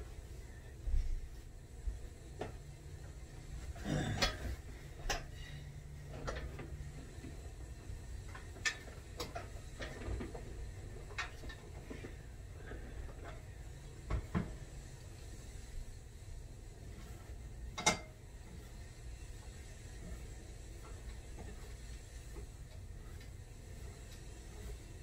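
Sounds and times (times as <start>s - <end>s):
home gym clicks and knocks: 1.9s - 14.9s, 16.8s - 25.0s.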